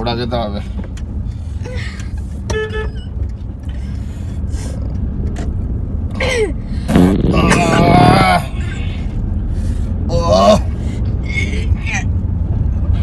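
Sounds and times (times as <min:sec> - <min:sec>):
car rumble from inside cabin: 0:00.0 - 0:13.0.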